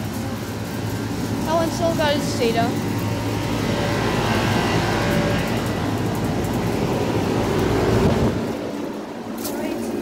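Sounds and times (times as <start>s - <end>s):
compressor hum: 0.0s - 10.0s
condenser fan rushing: 0.0s - 10.0s.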